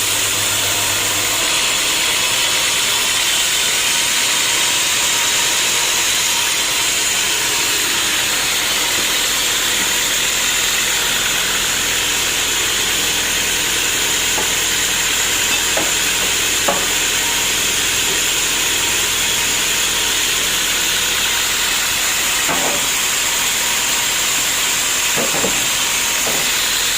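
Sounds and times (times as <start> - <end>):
sawmill machinery hissing: 0.0 - 26.9.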